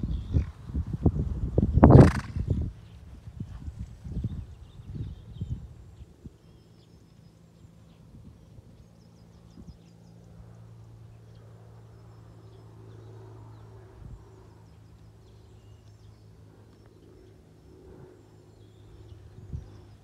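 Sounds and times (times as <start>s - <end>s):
steady low hum: 0.0s - 20.0s
small birds chirping: 1.5s - 20.0s.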